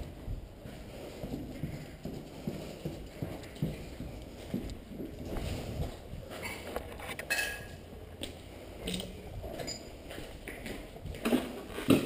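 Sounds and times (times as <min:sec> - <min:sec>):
footsteps crunching over rubble: 0:00.0 - 0:07.0, 0:07.6 - 0:12.0.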